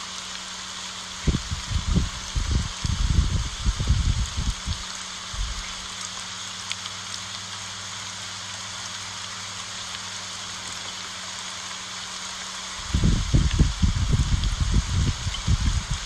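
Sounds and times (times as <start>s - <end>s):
rain on leaves: 0.0s - 16.0s.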